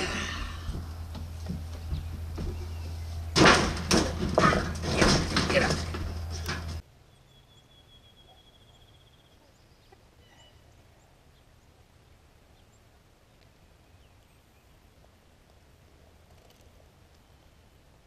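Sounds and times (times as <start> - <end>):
faint distant birdsong: 0.0 - 3.7, 6.0 - 18.0.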